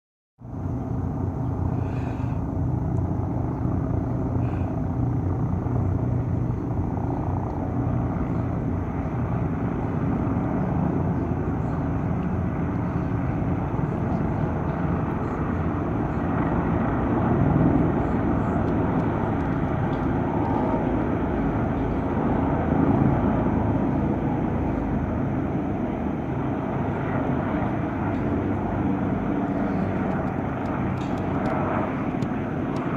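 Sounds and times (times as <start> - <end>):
helicopter rotor and engine drone: 0.4 - 32.9.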